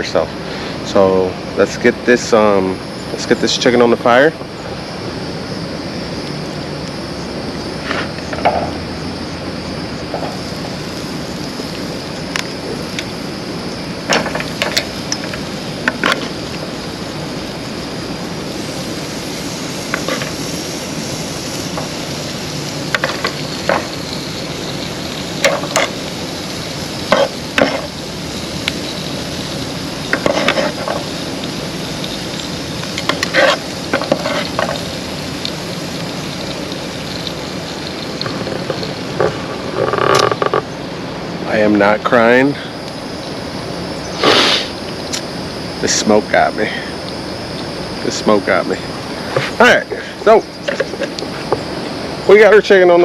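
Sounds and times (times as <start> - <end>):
chicken sizzling on a grill: 0.0 - 53.0.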